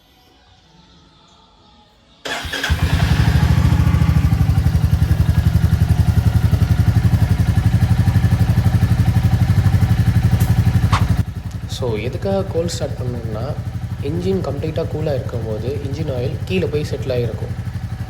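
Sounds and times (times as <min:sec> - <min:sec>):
motorcycle engine starting and idling: 0:02.3 - 0:18.0.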